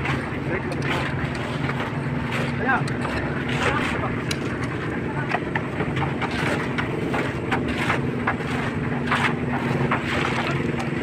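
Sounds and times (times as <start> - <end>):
concrete mixer engine running: 0.0 - 11.0.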